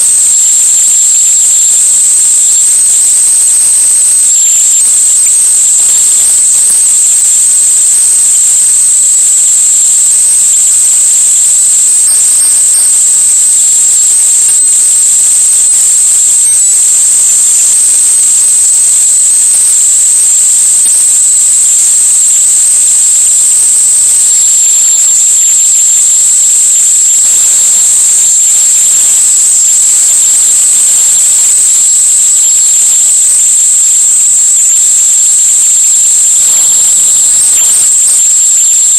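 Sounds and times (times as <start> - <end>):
high-pitched whine: 0.0 - 38.9.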